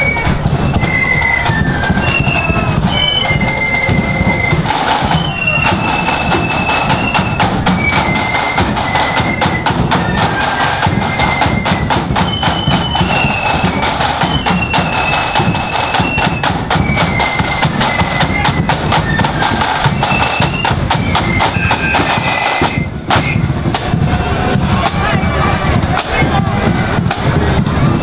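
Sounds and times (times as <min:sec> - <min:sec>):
flutes playing melody: 0:00.0 - 0:23.7
bass drum beat: 0:00.0 - 0:28.0
snare drum rhythm: 0:00.0 - 0:28.0.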